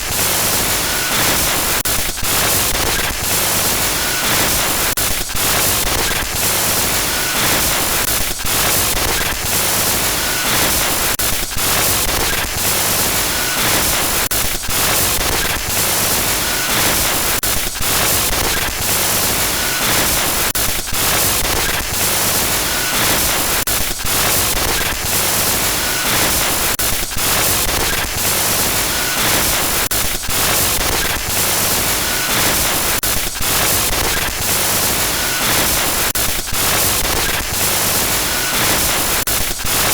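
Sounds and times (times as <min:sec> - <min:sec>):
glitchy static noise: 0:00.0 - 0:39.9.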